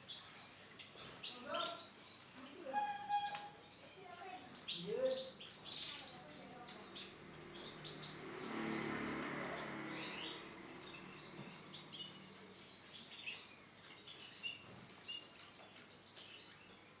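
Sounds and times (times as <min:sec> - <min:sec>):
canary chirping: 0:00.0 - 0:17.0.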